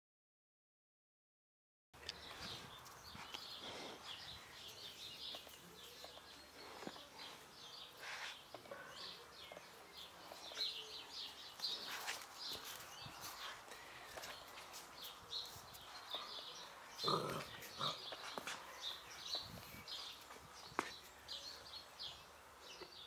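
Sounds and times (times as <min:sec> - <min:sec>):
small birds chirping: 0:02.0 - 0:23.0.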